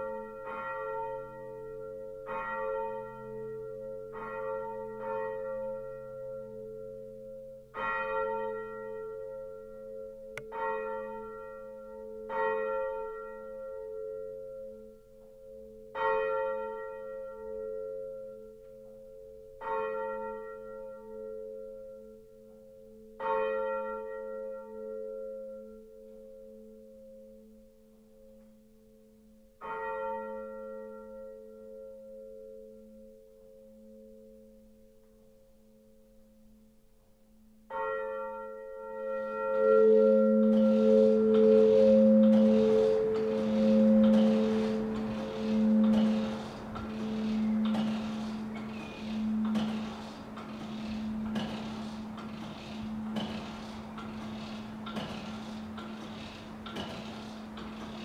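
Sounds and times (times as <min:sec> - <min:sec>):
church bells ringing: 0:00.0 - 0:36.0, 0:37.7 - 0:58.0.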